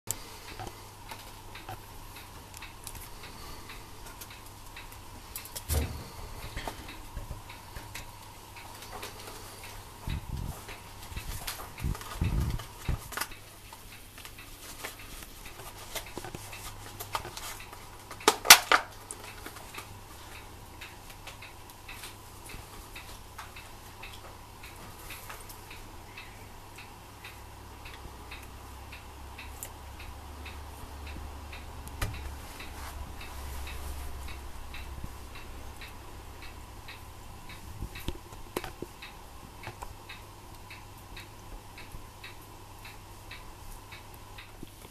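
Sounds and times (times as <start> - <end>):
faint ticking: 0.1 - 44.9.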